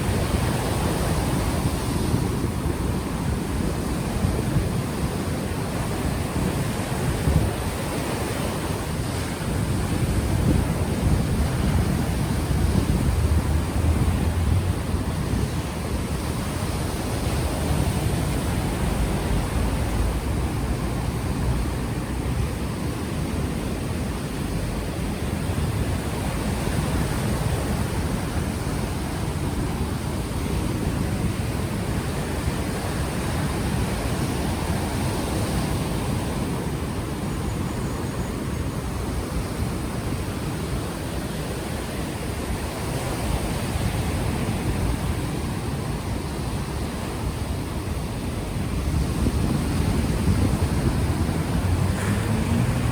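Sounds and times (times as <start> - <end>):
wind buffeting microphone: 0.0 - 41.2, 42.0 - 52.9
ocean surf washing ashore: 0.0 - 52.9.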